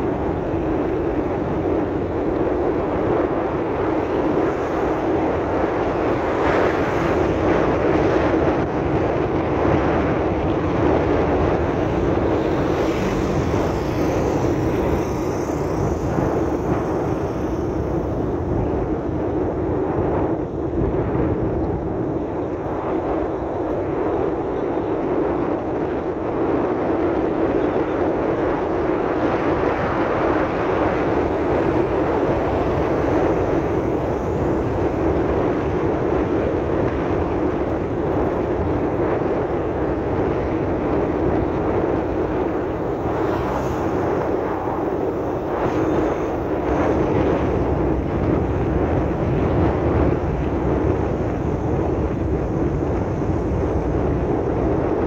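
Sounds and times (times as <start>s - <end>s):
vehicle driving on dirt road: 0.0s - 55.0s.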